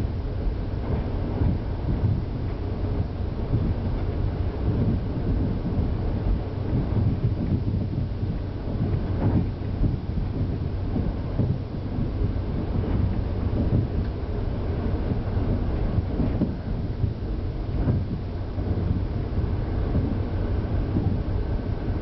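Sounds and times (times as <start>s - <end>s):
railcar rumbling on track: 0.0s - 22.0s.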